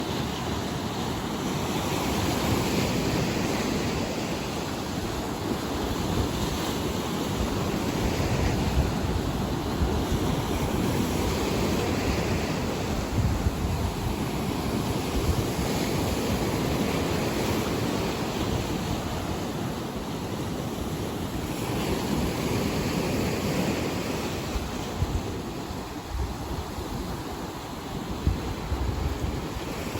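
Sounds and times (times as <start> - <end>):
surf breaking and washing in: 0.0 - 29.9
wind buffeting microphone: 0.0 - 29.9.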